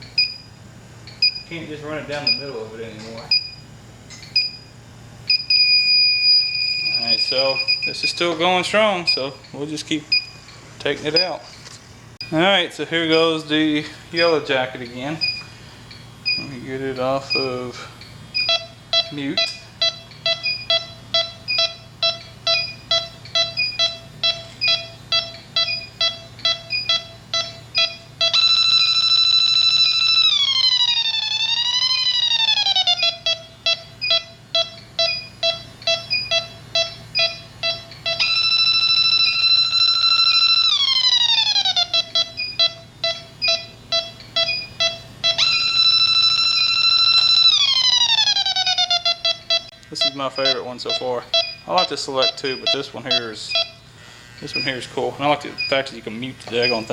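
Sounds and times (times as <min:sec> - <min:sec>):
continuous high alarm tone: 0:00.0 - 0:56.9
leak detector beeping: 0:00.0 - 0:56.9.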